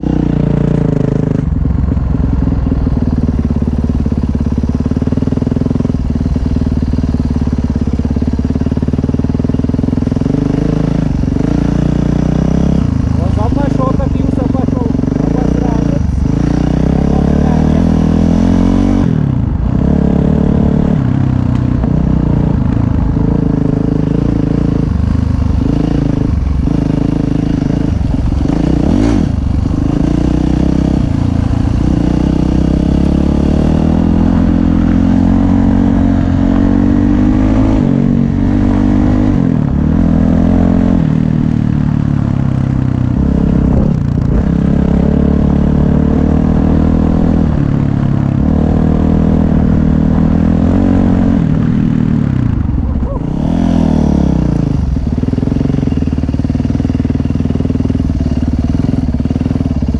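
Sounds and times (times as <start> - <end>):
dirt bike engine revving: 2.7 - 59.9.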